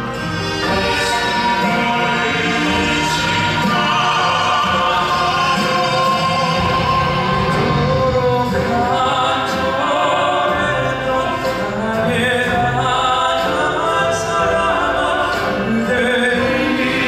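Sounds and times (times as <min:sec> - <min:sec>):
men singing operatically: 0:00.0 - 0:17.0
traditional orchestra accompanying: 0:00.0 - 0:17.0.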